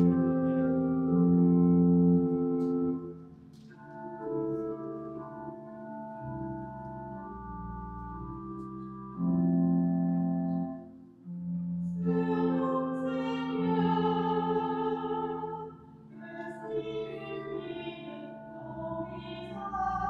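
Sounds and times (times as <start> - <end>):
organ playing held chords: 0.0 - 20.0.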